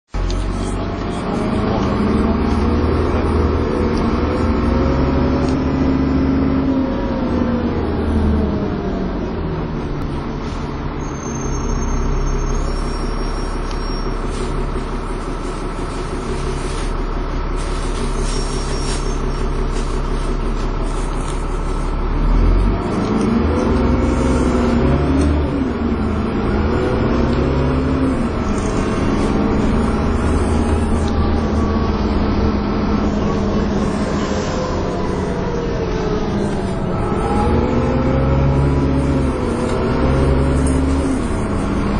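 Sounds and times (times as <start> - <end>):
bus accelerating with whine: 0.1 - 41.9.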